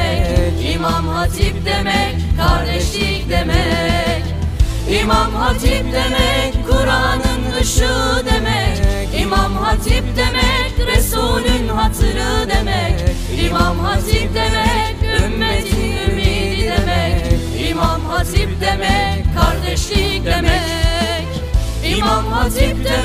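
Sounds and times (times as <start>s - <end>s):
song with sung vocals over a beat: 0.0s - 23.0s.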